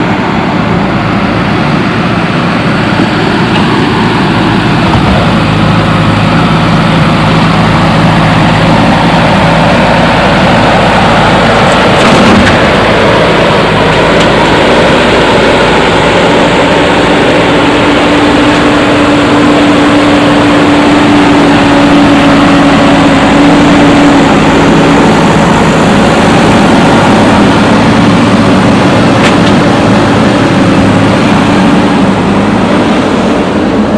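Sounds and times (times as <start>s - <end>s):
heavy machinery humming: 0.0s - 33.9s.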